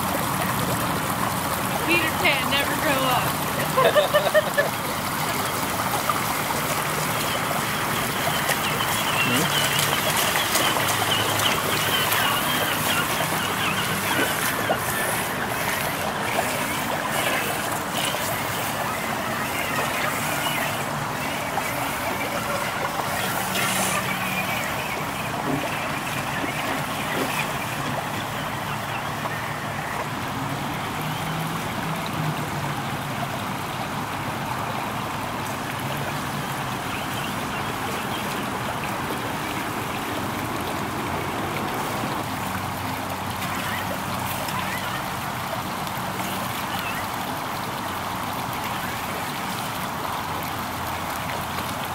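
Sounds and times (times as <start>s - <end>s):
water trickling through stream: 0.0s - 51.9s.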